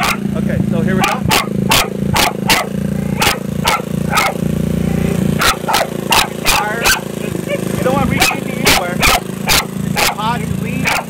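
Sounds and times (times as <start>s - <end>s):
dog barking: 0.0s - 0.3s, 1.0s - 4.5s, 5.4s - 11.0s
scooter engine idling: 0.0s - 11.0s.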